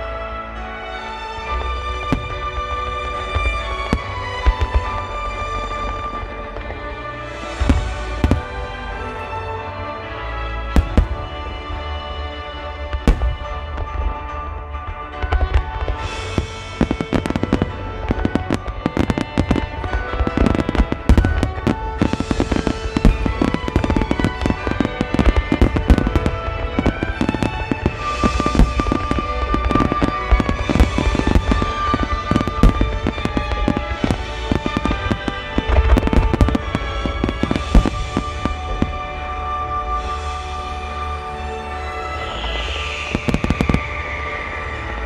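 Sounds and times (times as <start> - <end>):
music playing: 0.0 - 45.0
fireworks bursting: 0.6 - 45.0.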